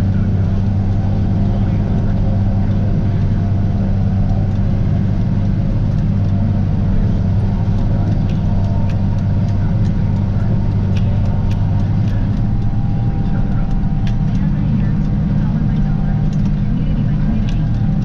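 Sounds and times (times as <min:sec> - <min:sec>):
forage harvester chopping corn: 0:00.0 - 0:18.0
tractor engine droning: 0:00.0 - 0:18.0
sharp ticks: 0:00.3 - 0:18.0.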